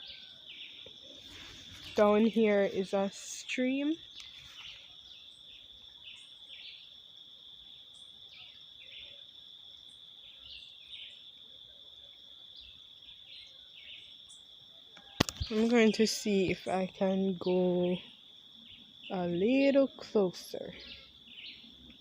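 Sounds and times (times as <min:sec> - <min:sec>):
bird chirps: 0:00.0 - 0:06.9, 0:09.9 - 0:11.3, 0:12.5 - 0:22.0
insects ringing: 0:00.0 - 0:22.0.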